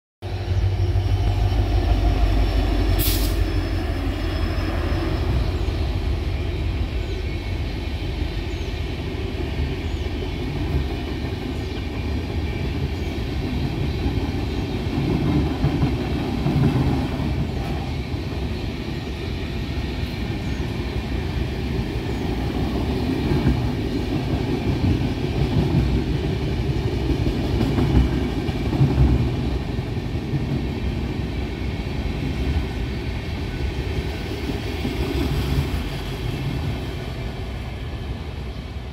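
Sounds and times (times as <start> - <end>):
train passing at speed: 0.2 - 38.9
wheels rumbling on rails: 0.2 - 38.9.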